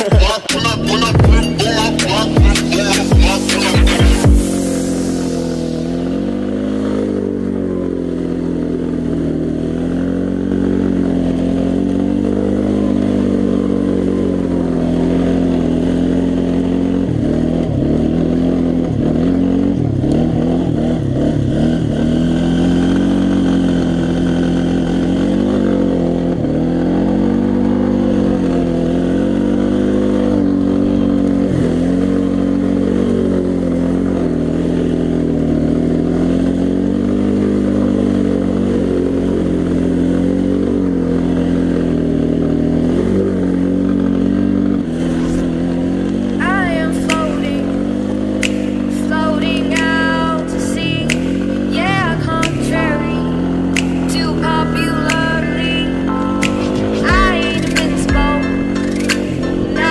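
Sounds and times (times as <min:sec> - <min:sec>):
atv engine running under load: 0:00.0 - 0:59.9.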